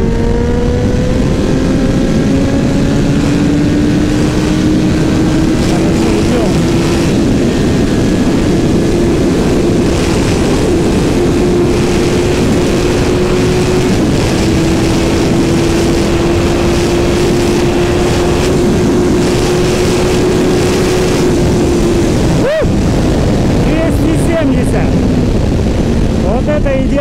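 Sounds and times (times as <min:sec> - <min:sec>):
motorcycle engine at high revs: 0:00.0 - 0:27.0
wind rush on microphone: 0:00.0 - 0:27.0.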